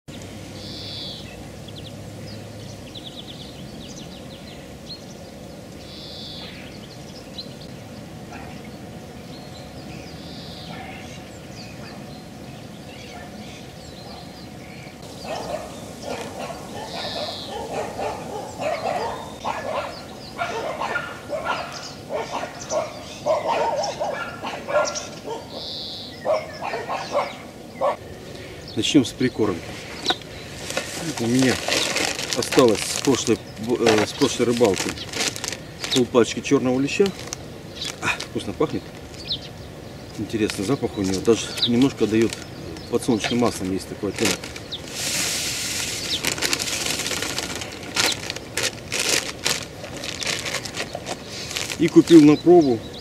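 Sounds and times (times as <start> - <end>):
outdoor background noise: 0.0 - 53.0
songbirds singing: 0.0 - 53.0.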